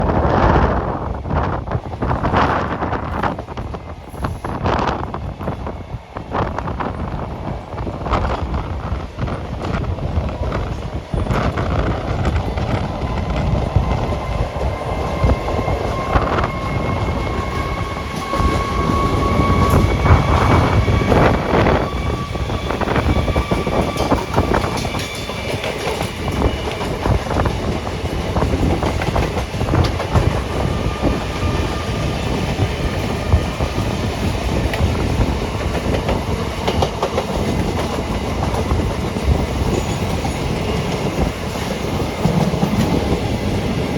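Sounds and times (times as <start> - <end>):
train wheels clacking on rails: 2.0 - 43.9.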